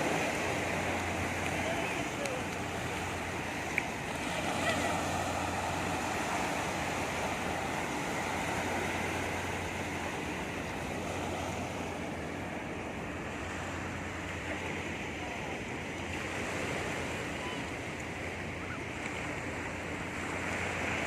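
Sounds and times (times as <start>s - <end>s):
sea surf washing ashore: 0.0s - 21.0s.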